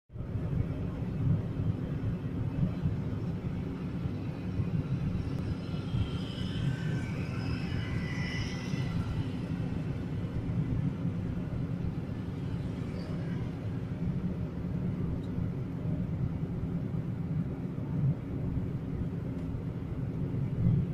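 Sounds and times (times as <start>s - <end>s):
car road and engine noise: 0.1s - 20.9s.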